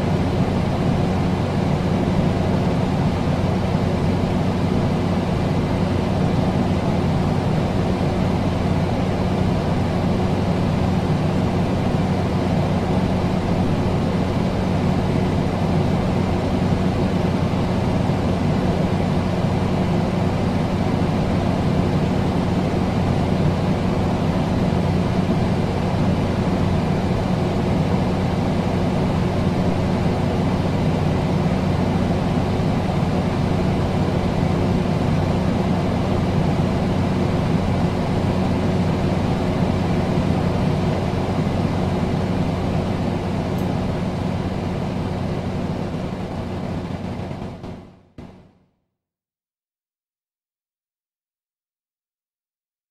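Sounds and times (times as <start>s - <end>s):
electric fan air rush: 0.0s - 48.1s.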